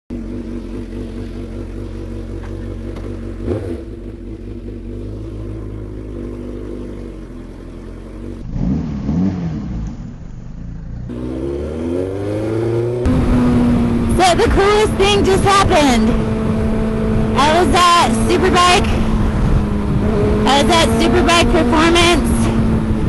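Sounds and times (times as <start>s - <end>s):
motorcycle engine idling and revving: 0.1s - 23.0s.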